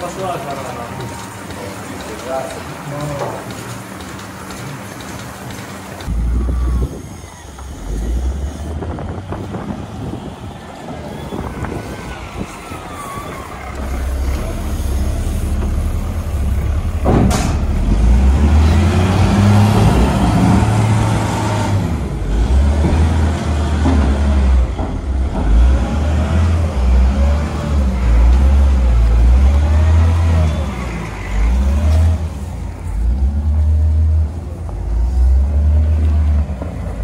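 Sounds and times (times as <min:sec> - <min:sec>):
diesel engine rumbling: 0:00.0 - 0:37.0.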